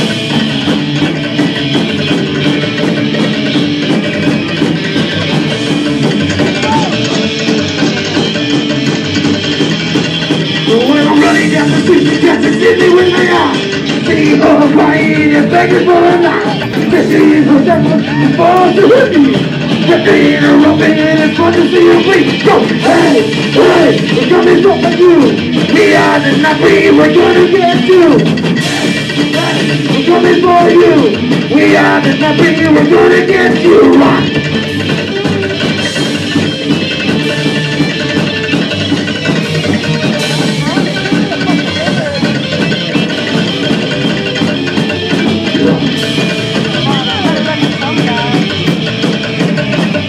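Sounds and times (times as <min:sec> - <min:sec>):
driving drums: 0:00.0 - 0:50.0
live rock band playing: 0:00.0 - 0:50.0
sliding electric guitar notes: 0:00.0 - 0:50.0
upright bass: 0:00.0 - 0:50.0.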